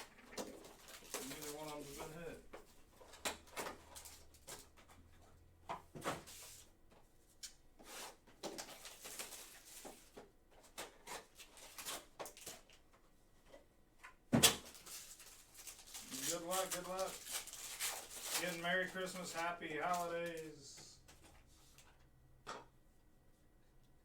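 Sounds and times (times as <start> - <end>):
wrappers and cards rustling: 0.0 - 5.4, 6.0 - 6.7, 7.4 - 13.0, 14.5 - 22.0.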